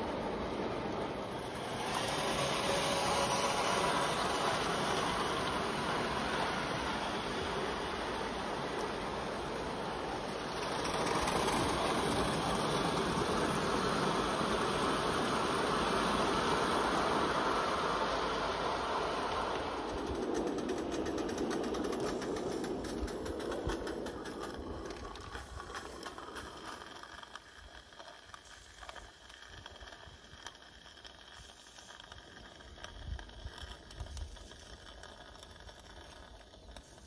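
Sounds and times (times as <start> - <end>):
model train rattle: 0.0 - 37.0
model train wheel clicks: 0.8 - 37.0.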